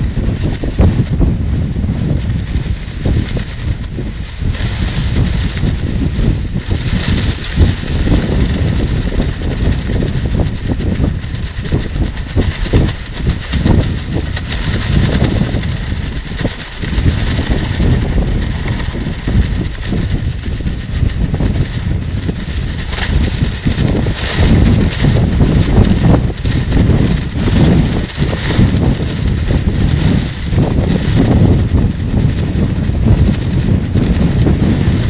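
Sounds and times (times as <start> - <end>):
plastic rainsuit flapping: 0.0 - 35.0
wind buffeting microphone: 0.0 - 35.0.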